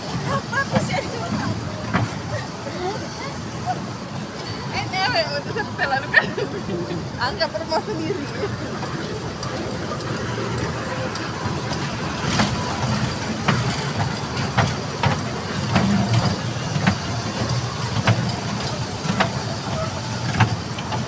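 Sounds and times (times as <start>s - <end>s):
kiddie train rumbling: 0.0s - 21.0s.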